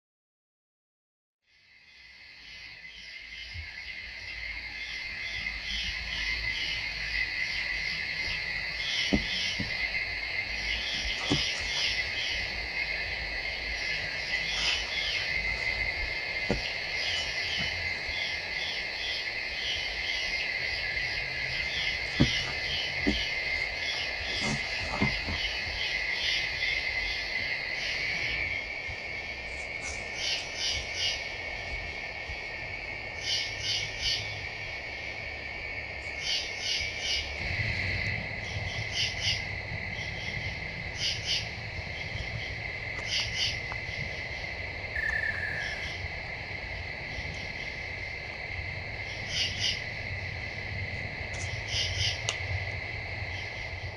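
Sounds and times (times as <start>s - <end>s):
crickets droning: 1.5s - 53.9s
insects chirping rapidly: 1.5s - 53.9s.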